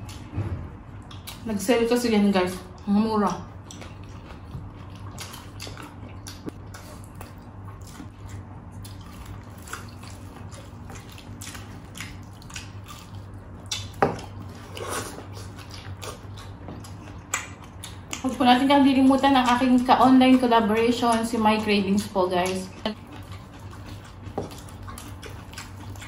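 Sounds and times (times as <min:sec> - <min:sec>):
wet chewing and lip-smacking: 0:01.0 - 0:01.5, 0:02.5 - 0:26.0.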